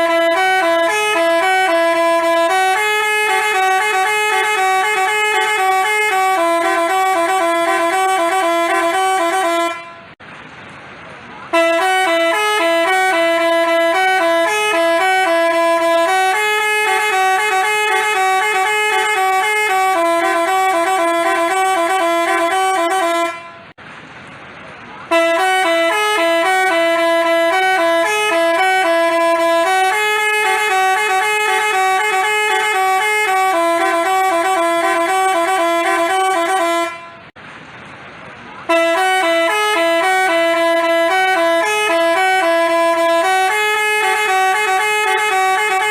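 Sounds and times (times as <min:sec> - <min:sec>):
multi-tone bus horn playing tune: 0:00.0 - 0:10.2, 0:11.4 - 0:23.8, 0:25.0 - 0:37.4, 0:38.6 - 0:45.9.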